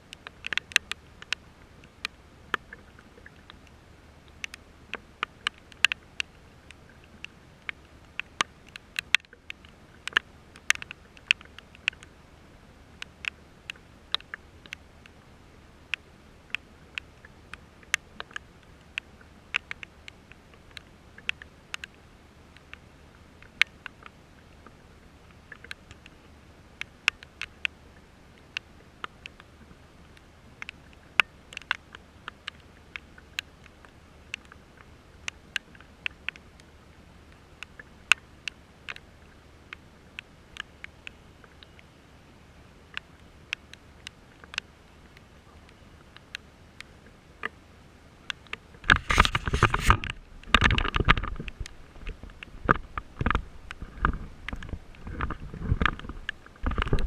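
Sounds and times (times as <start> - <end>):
faint hiss of rain: 0.0 - 57.0
raindrops tapping near microphone: 0.0 - 57.0.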